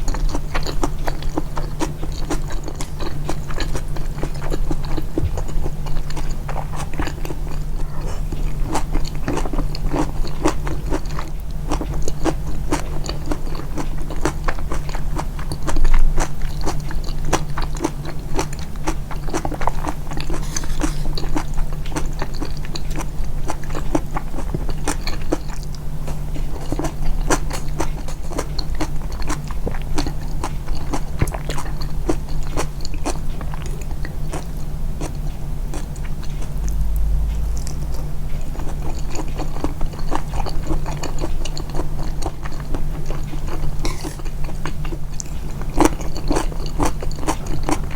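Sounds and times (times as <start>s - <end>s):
close chewing and biting: 0.0s - 47.9s
steady low hum: 0.0s - 47.9s.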